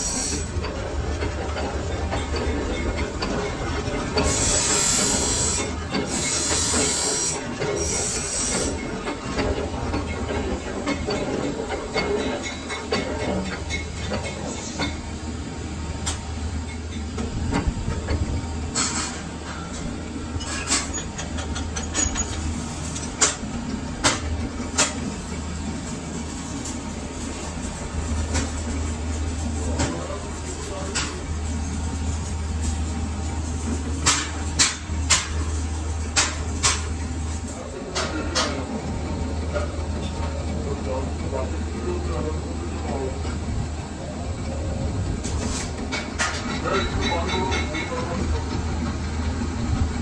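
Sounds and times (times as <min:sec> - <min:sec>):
lathe low rumble: 0:00.0 - 0:50.0
workshop machinery humming: 0:00.0 - 0:50.0.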